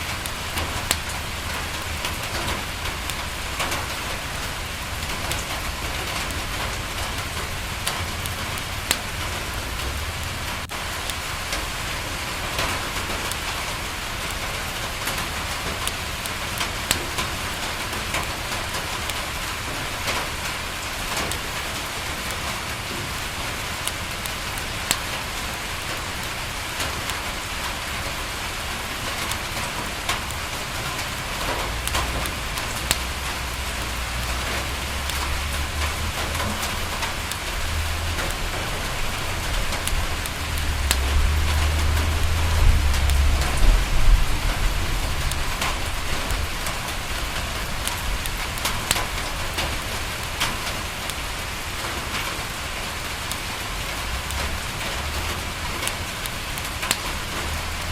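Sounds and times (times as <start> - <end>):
rain on a window: 0.0 - 57.9
wood fire crackling and popping: 0.0 - 57.9.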